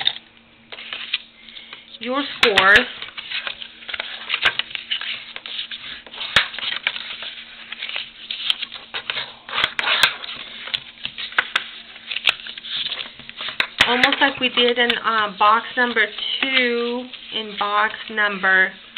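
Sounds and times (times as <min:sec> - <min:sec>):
stiff paper rustling: 0:02.6 - 0:18.2.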